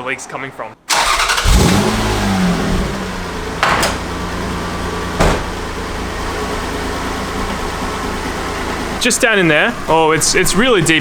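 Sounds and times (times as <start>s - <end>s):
car engine idling: 0.9s - 11.0s.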